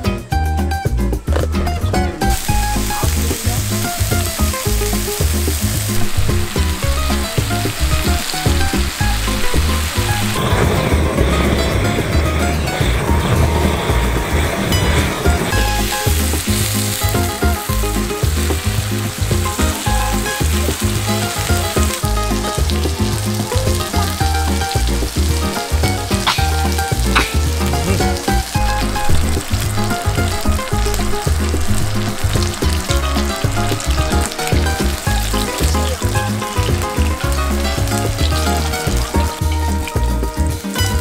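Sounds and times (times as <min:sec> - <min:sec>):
background music with bass beat: 0:00.0 - 0:41.0
meat sizzling on griddle: 0:02.2 - 0:41.0.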